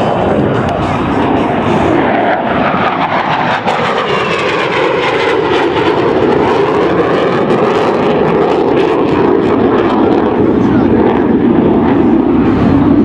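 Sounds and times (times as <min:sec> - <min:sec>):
jet aircraft flyby: 0:00.0 - 0:13.0.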